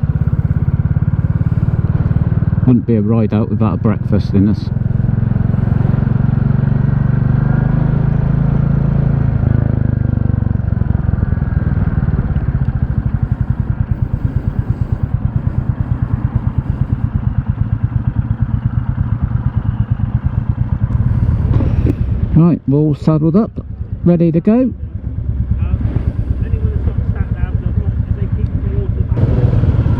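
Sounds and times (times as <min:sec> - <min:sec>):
motorcycle engine idling: 0:00.0 - 0:08.4, 0:09.1 - 0:29.9.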